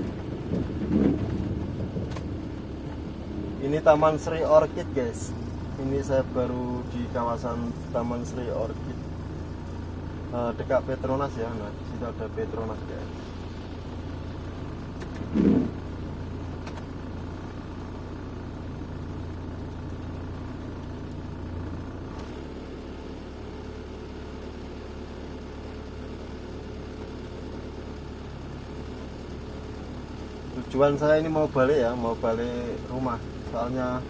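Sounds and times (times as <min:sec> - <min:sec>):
car engine hum from cabin: 0:00.0 - 0:34.0.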